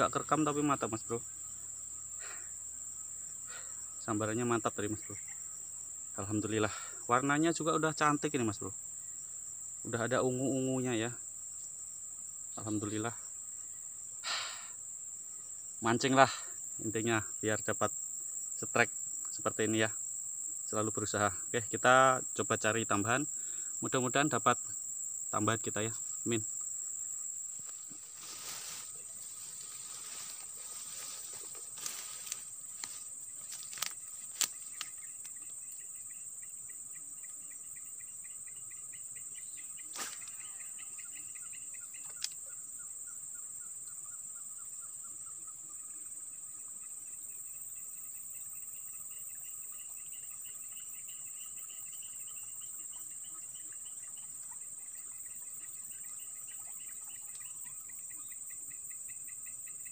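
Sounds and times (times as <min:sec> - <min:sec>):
insect chorus drone: 0:00.0 - 0:59.9
insect pulsing trills: 0:00.0 - 0:59.9.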